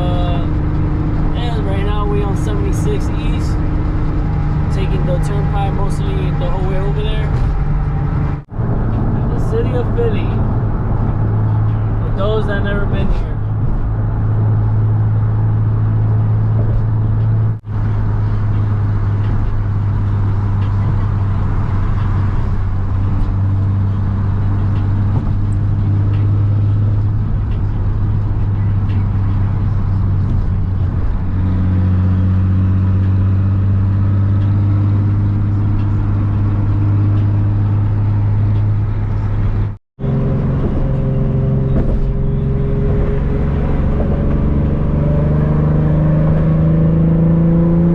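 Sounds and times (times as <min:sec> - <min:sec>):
car engine drone: 0:00.0 - 0:47.9
road noise inside car: 0:00.0 - 0:47.9.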